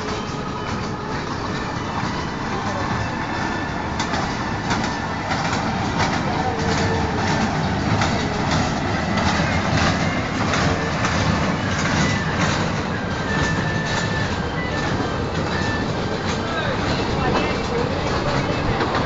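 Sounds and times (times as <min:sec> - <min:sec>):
ride-on train rumbling: 0:00.0 - 0:19.0
wheels clicking and rattling: 0:00.0 - 0:19.0.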